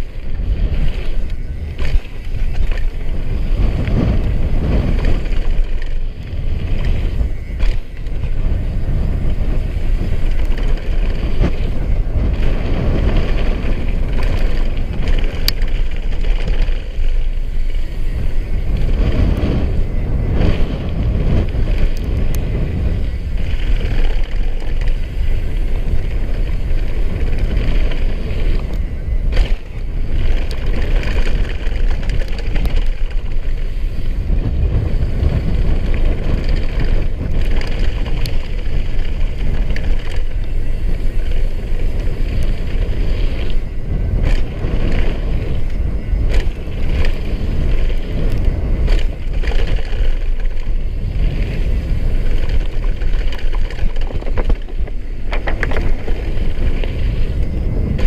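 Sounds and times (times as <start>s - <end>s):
bike knocks and rattles: 0.0s - 58.0s
tyres rumbling on gravel: 0.0s - 58.0s
wind buffeting microphone: 0.0s - 58.0s.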